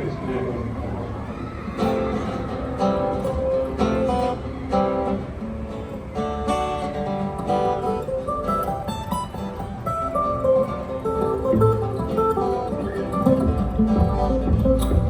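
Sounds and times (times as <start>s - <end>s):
acoustic guitar strumming: 1.2s - 15.0s.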